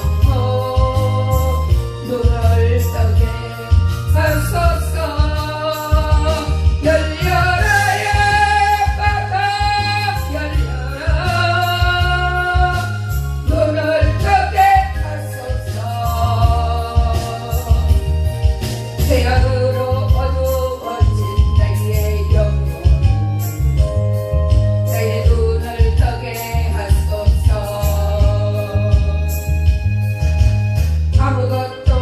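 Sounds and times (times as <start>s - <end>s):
person singing gospel song: 0.0s - 30.1s, 31.1s - 32.0s
pulsing bass beat: 0.0s - 32.0s.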